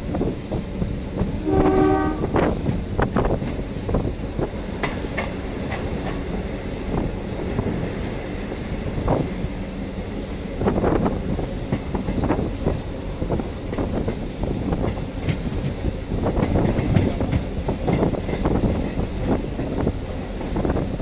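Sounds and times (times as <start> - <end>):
train running noise: 0.0 - 21.0
train wheels clattering over rails: 0.0 - 21.0.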